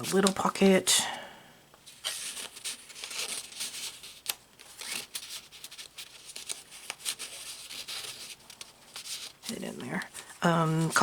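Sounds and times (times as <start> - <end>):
paper pages rustling: 0.0 - 0.5, 1.8 - 11.0.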